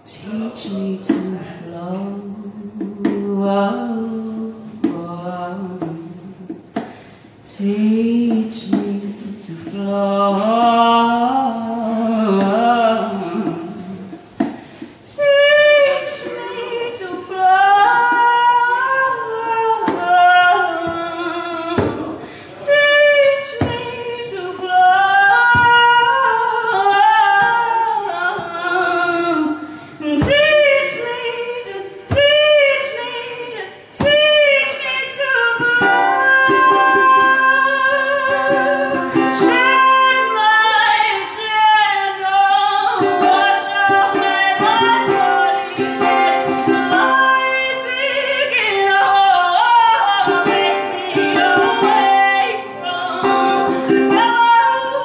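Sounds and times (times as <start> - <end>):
ukulele: 0.0 - 55.0
woman singing: 0.0 - 55.0.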